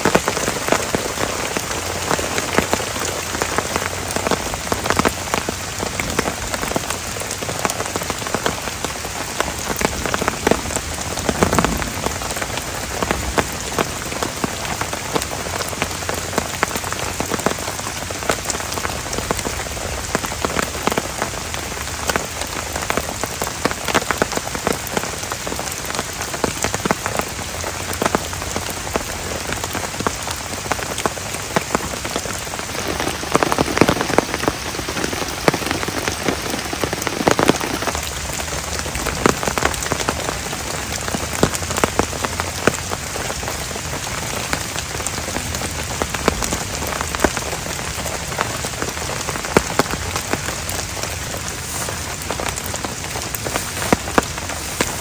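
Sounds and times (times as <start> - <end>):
heavy rain hissing: 0.0 - 55.0
raindrops striking close by: 0.0 - 55.0.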